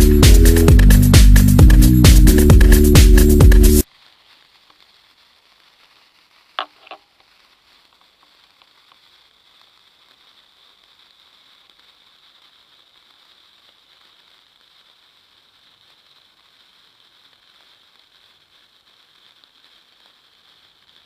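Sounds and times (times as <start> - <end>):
sparkler fizzing hiss: 0.0 - 21.0.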